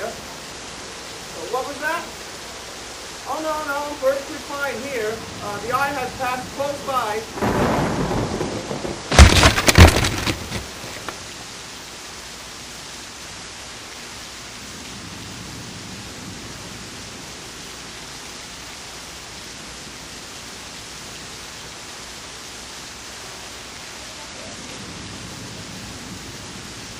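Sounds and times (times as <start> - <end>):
steady hiss: 0.0 - 26.9.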